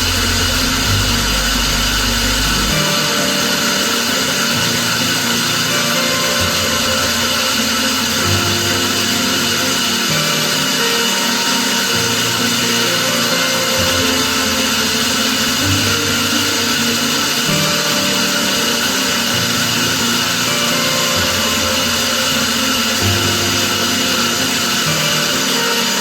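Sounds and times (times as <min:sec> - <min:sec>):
background music: 0:00.0 - 0:26.0
power tool running: 0:00.0 - 0:26.0.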